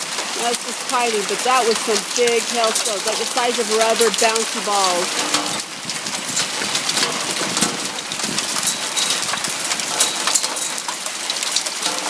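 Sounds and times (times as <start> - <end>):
rain and hail pattering: 0.0 - 12.0.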